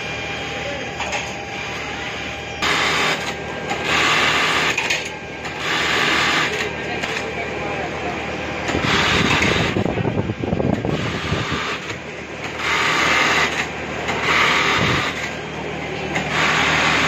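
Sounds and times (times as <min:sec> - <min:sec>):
steady machine hum: 0:00.0 - 0:17.0
sewing machines running: 0:02.6 - 0:17.0.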